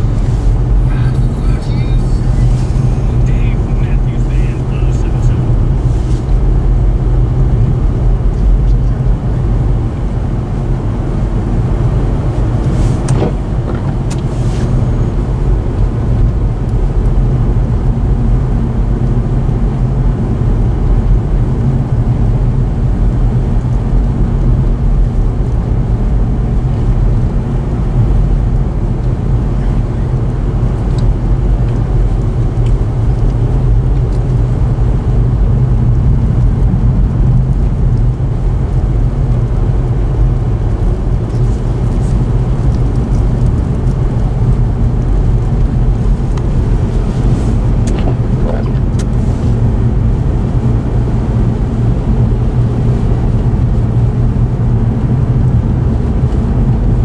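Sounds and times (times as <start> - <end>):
blizzard wind: 0.0 - 57.0
car rumbling: 0.0 - 57.0.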